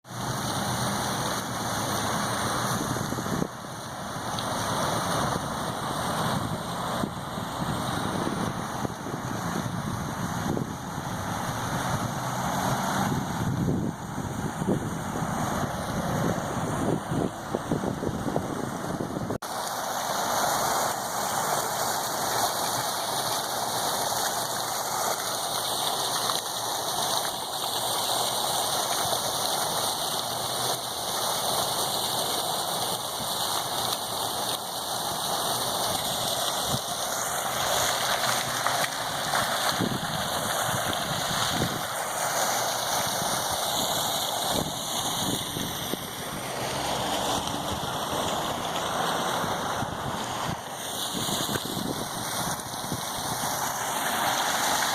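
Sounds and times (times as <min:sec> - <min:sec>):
hurricane wind: 0:00.0 - 0:25.4, 0:34.8 - 0:54.9
rain: 0:00.0 - 0:54.9.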